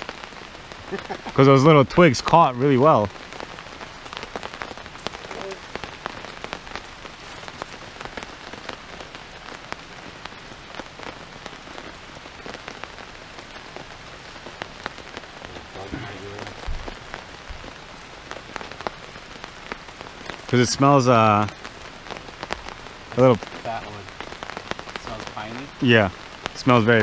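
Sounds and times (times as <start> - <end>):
rain falling on a tarp: 0.0 - 27.0.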